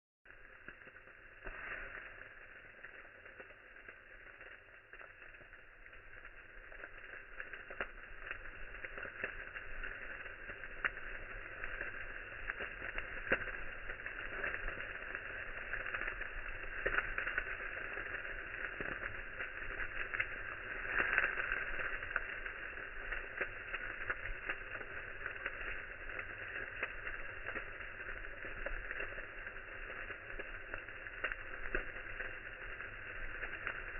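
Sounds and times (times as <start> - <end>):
fire crackling and hissing: 0.3 - 33.9.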